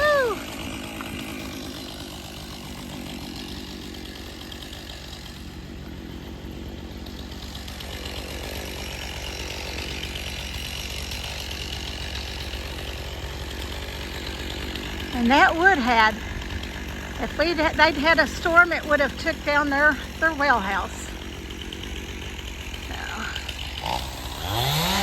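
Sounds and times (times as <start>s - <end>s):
chainsaw running: 0.0s - 25.0s.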